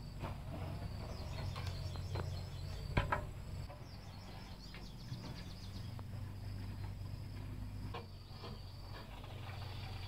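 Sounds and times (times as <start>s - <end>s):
insects chirping: 0.0s - 10.0s
steady low hum: 0.0s - 10.0s.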